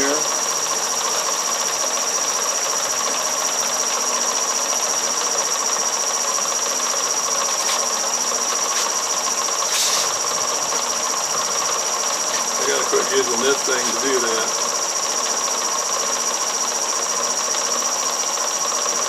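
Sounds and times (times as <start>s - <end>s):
jigsaw running: 0.0s - 19.0s.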